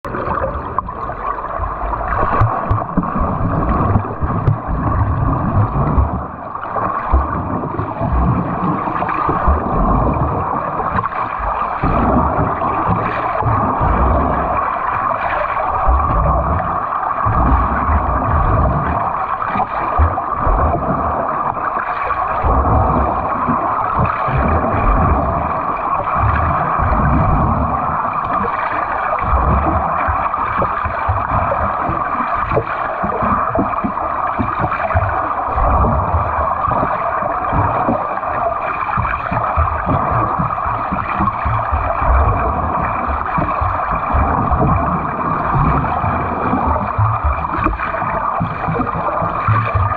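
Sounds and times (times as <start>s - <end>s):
water splashing from swimming strokes: 0.0s - 49.9s.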